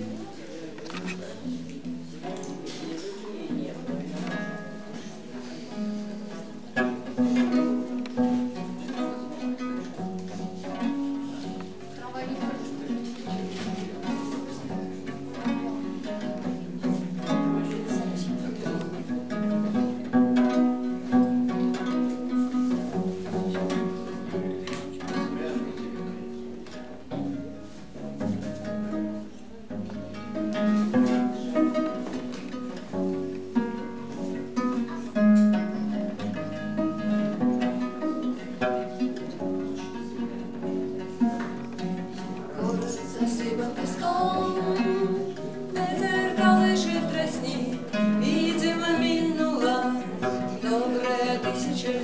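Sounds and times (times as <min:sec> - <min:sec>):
viola da gamba plucked: 0:00.0 - 0:52.0.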